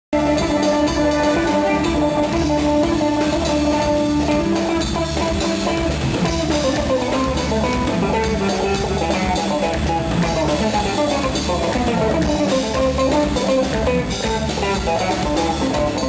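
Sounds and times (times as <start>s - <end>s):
live band instrumental: 0.1s - 16.0s.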